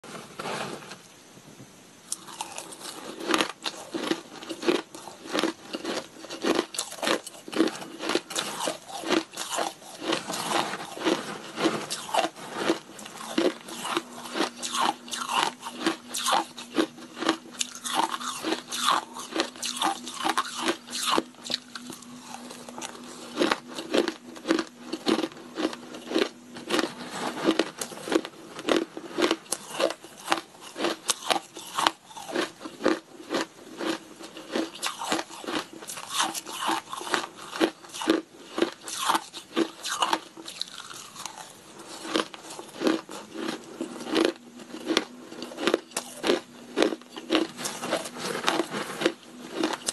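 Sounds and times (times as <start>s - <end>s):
ice being chewed: 2.1s - 49.9s.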